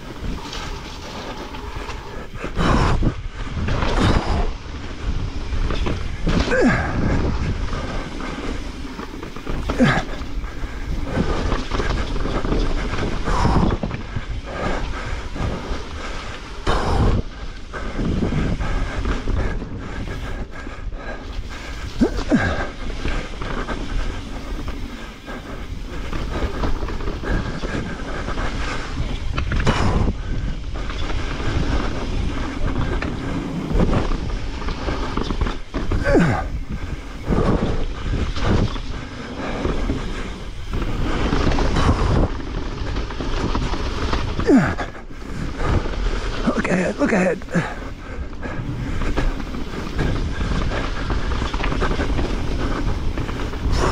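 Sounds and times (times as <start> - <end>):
bike tyre rumble and rattling: 0.0 - 53.9.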